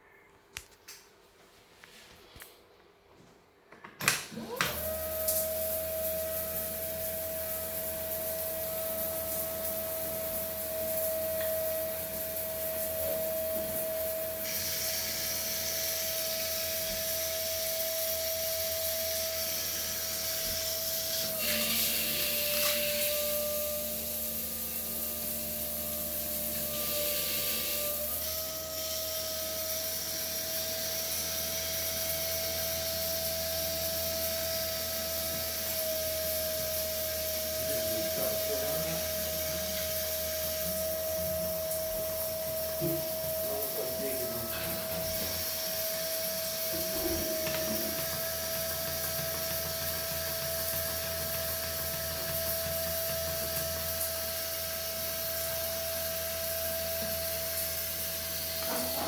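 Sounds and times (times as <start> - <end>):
pump whining: 3.8 - 59.0.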